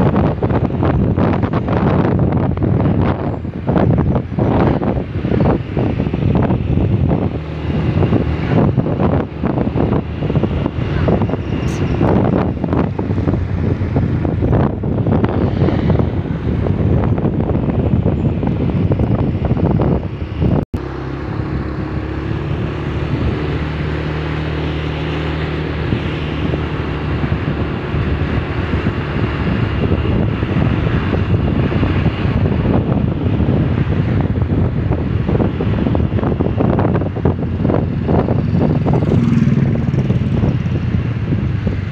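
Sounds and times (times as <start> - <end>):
motorbike engine humming: 0.0 - 41.9
wind buffeting microphone: 0.0 - 41.9.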